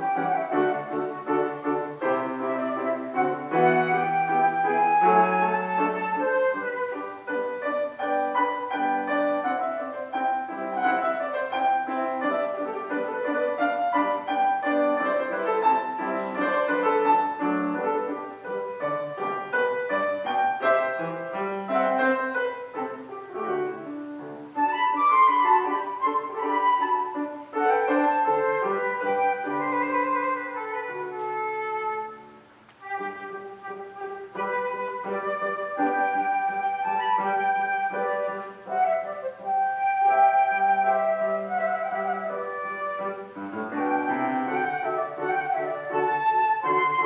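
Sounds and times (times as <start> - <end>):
piano accompaniment: 0.0 - 47.0
solo woodwind melody: 0.0 - 47.0.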